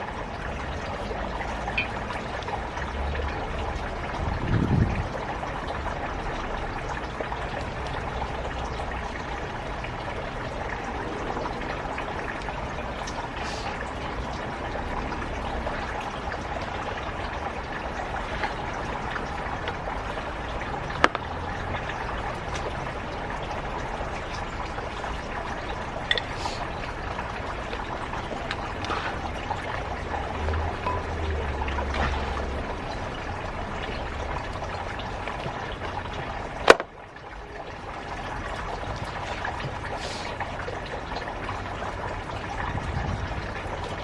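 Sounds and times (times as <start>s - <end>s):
running water: 0.0s - 44.0s.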